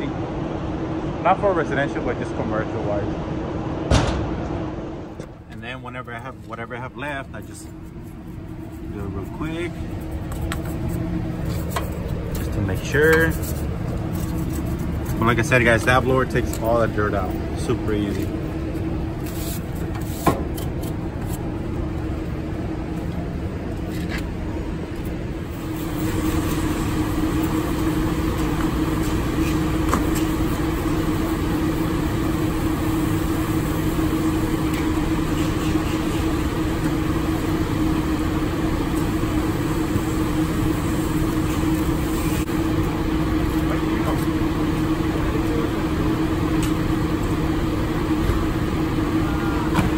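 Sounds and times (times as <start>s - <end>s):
machine hum with low drone: 0.0s - 49.9s.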